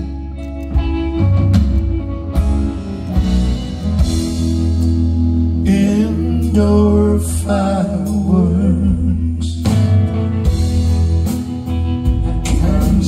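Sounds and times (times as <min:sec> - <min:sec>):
live band playing instrumental: 0:00.0 - 0:13.0.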